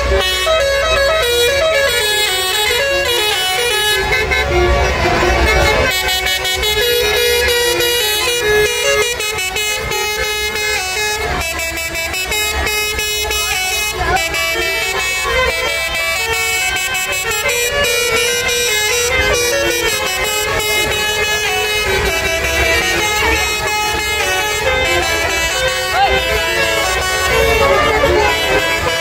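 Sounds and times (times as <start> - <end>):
bus musical horns playing tunes: 0.0 - 29.0.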